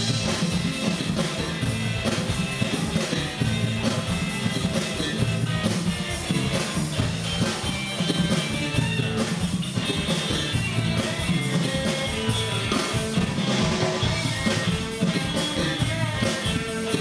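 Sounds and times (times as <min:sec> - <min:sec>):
drum kit: 0:00.0 - 0:17.0
electric guitar: 0:00.0 - 0:17.0.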